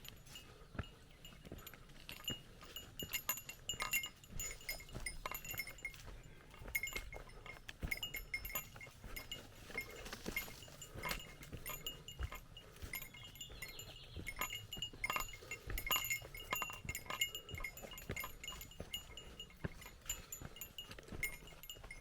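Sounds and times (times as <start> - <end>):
small metal bell jingling: 0.0 - 22.0.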